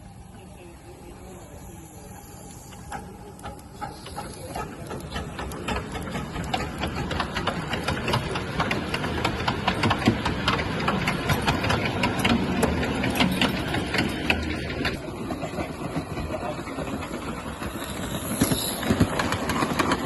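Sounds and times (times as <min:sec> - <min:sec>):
small model engine clattering: 0:02.6 - 0:20.0.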